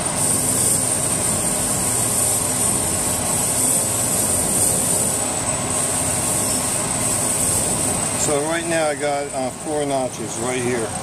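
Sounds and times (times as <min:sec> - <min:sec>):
brake lathe motor hum: 0:00.0 - 0:11.0
high hiss of spinning rotor: 0:00.0 - 0:11.0.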